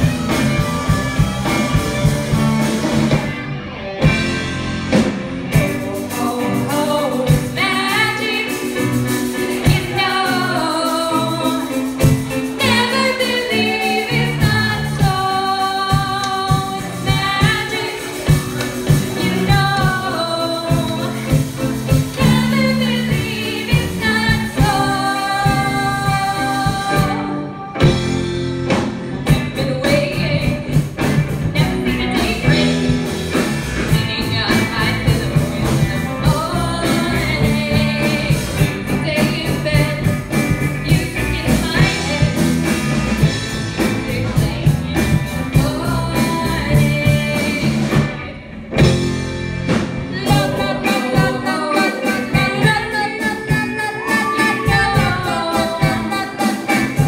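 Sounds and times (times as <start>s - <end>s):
live rock band playing: 0.0s - 57.0s
lead vocals singing: 5.4s - 28.2s, 31.4s - 49.0s, 49.8s - 57.0s.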